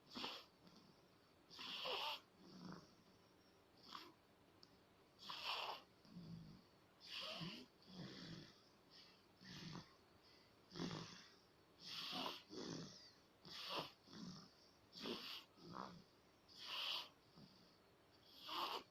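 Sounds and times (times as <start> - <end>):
baby snoring: 0.0 - 0.9, 1.5 - 3.1, 3.8 - 4.2, 5.2 - 10.0, 10.7 - 18.9.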